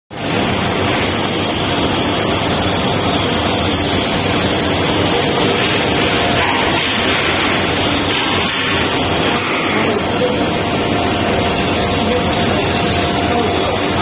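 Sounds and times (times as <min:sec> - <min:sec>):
welding arc hissing: 0:00.1 - 0:14.0.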